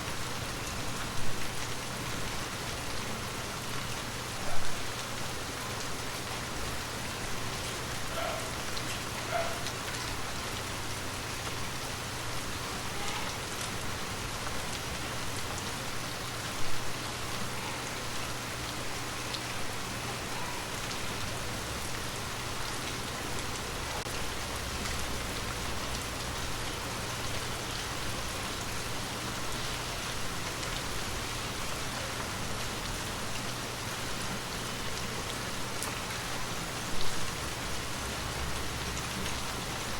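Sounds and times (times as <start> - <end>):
gentle steady rain: 0.0 - 39.9.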